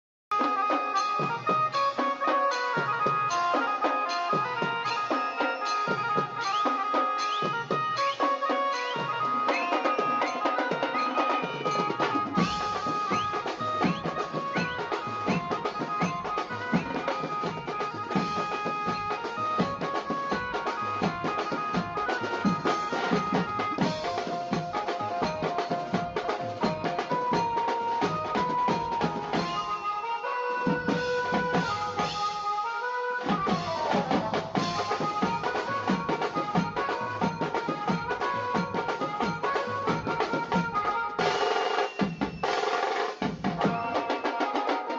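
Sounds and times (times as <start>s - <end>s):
music with fast dense drumming: 0.3s - 32.6s, 33.2s - 44.9s.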